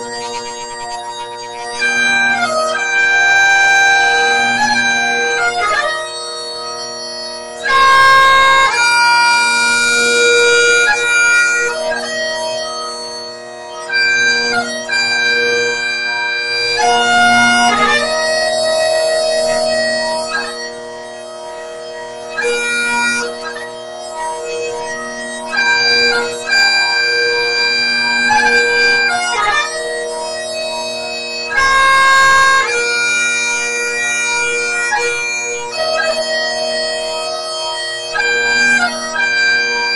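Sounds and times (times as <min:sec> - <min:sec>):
bagpipe chanter melody: 0:00.0 - 0:39.9
bagpipe drones humming: 0:00.0 - 0:39.9.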